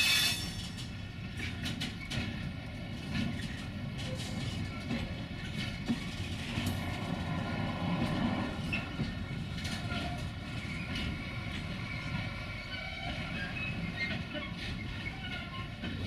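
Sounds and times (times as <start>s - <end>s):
diesel train engine: 0.0s - 16.0s
wheel and track rumble: 0.0s - 16.0s.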